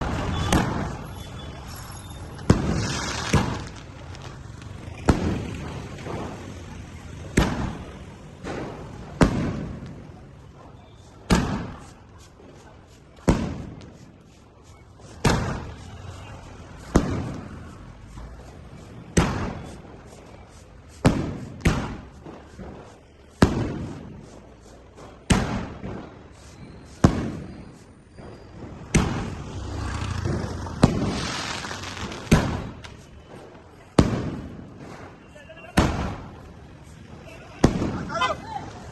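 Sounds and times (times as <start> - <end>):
firework bangs: 0.0 - 38.9
firework crackling: 0.0 - 38.9.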